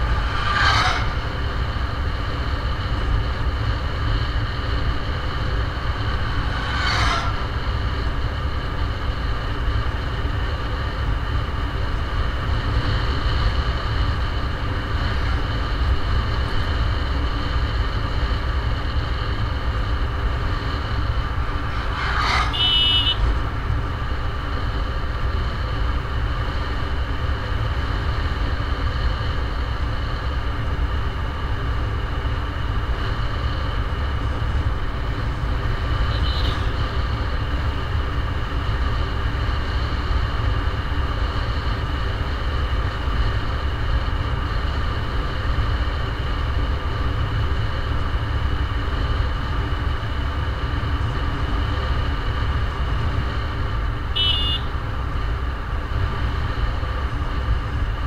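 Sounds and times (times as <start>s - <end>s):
steady high whine: 0.0s - 58.0s
vehicle road rumble: 0.0s - 58.0s.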